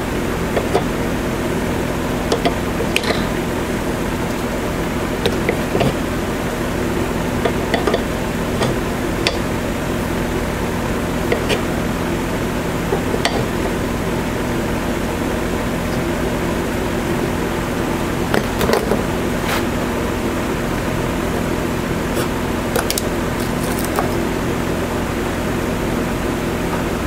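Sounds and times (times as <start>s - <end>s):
motor or fan humming: 0.0s - 27.0s.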